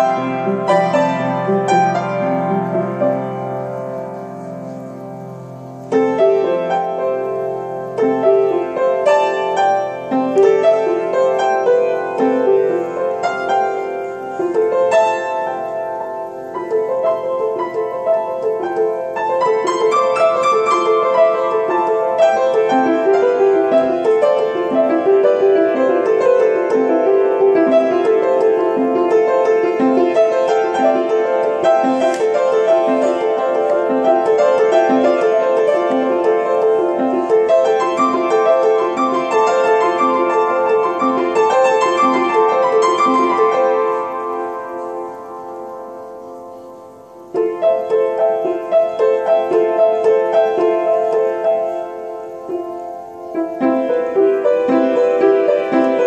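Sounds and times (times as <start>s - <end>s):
solo piano: 0.0s - 56.0s.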